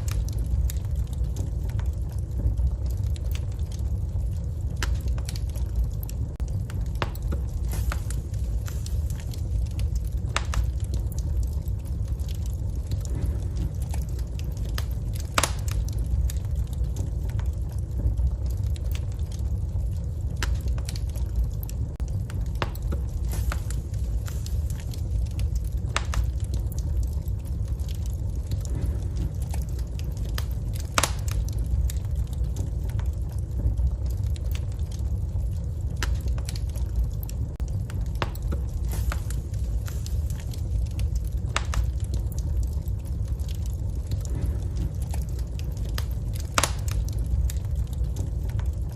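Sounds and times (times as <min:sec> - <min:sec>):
logs crackling and popping: 0:00.0 - 0:48.9
rumble of flames: 0:00.0 - 0:48.9.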